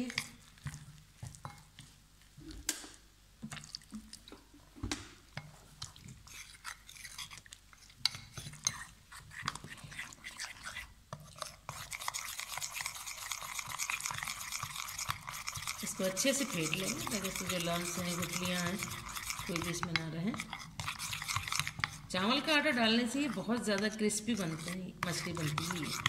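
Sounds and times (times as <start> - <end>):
spoon stirring batter in bowl: 0.0 - 26.0.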